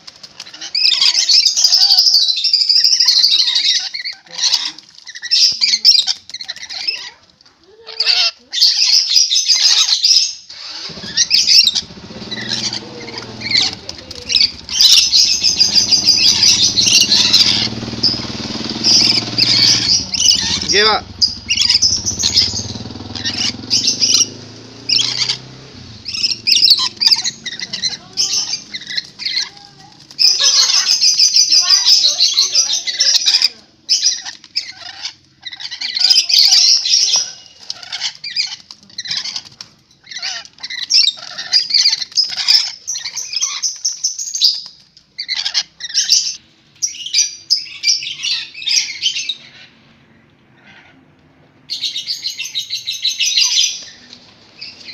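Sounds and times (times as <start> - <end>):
lorikeet screeching: 0.4 - 7.2, 7.9 - 49.8, 51.7 - 54.9.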